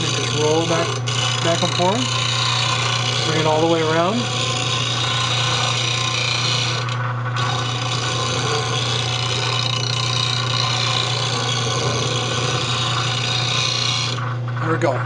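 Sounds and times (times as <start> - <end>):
steel grinding on stone: 0.0 - 14.5
bench grinder motor hum: 0.0 - 15.0.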